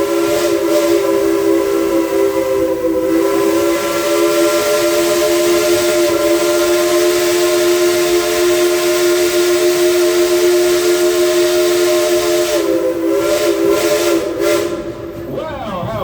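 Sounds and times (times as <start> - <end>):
steam locomotive whistle: 0.0 - 15.5
steam hissing: 0.0 - 16.0.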